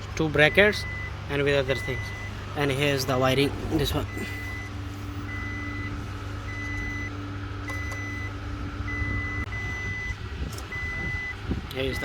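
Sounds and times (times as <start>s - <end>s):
constant low hum: 0.0s - 12.0s
high-pitched warning beeps: 0.5s - 12.0s.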